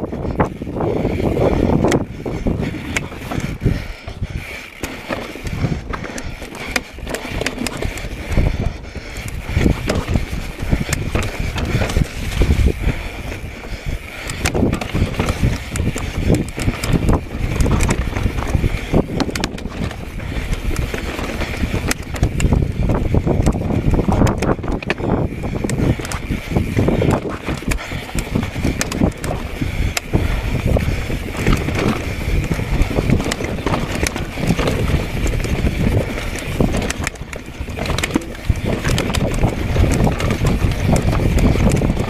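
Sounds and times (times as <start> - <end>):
bike knocking and rattling: 0.0 - 42.0
bike tyres on rocky trail: 0.0 - 42.0
wind rumble on microphone: 0.0 - 42.0.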